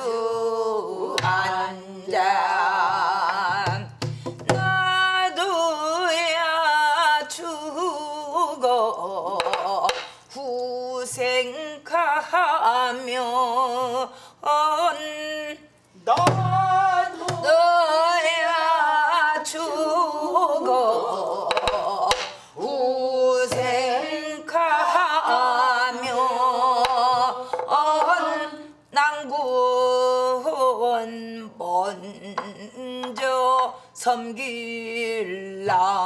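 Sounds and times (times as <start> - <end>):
woman singing folk song with vibrato: 0.0 - 36.0.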